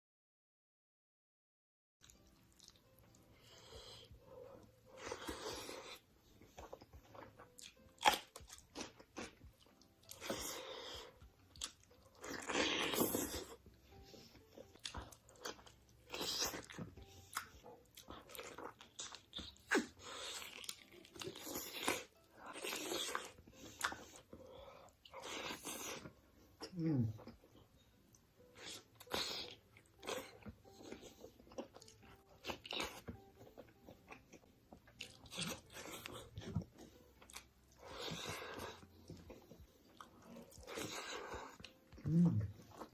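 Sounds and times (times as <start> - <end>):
crunchy chewing of food: 2.0 - 26.6, 27.2 - 42.9.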